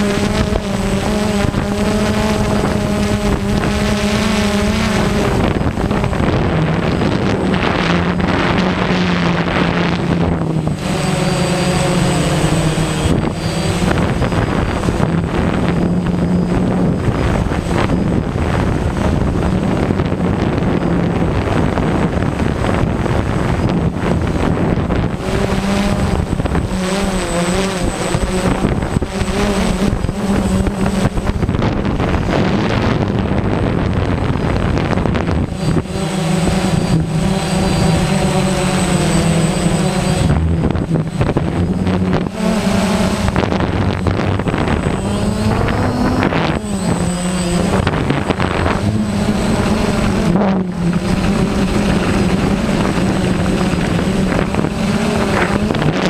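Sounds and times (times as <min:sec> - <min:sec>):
drone propellers whirring: 0:00.0 - 0:56.0.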